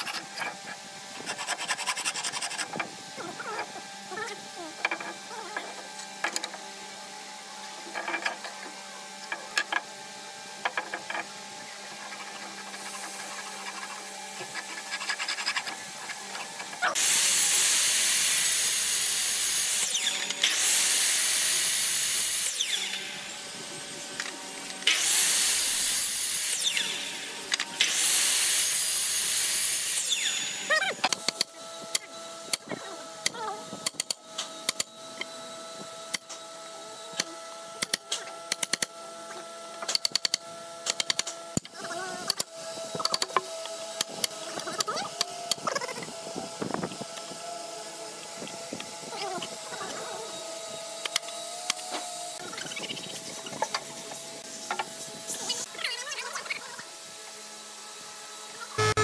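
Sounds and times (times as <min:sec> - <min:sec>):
miter saw cutting wood: 0:00.0 - 0:59.0.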